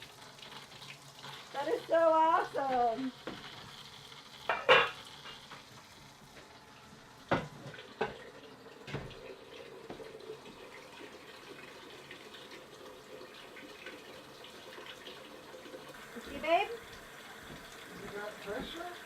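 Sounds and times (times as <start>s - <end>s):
water running from a faucet: 0.0s - 19.0s.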